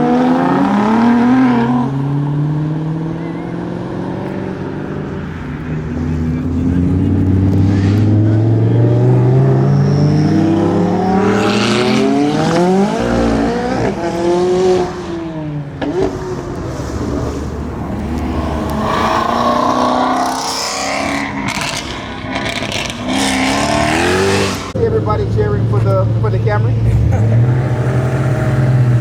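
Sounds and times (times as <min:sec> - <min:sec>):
car engines accelerating hard: 0:00.0 - 0:29.0.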